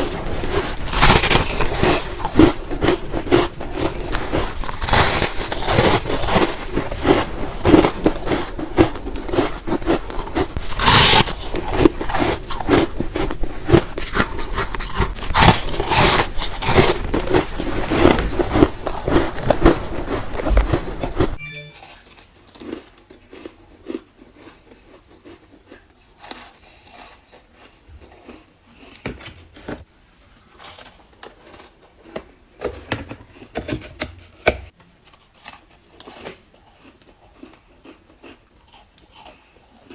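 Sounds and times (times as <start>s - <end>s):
frost being chewed crunching: 0.0s - 29.1s, 35.0s - 39.9s.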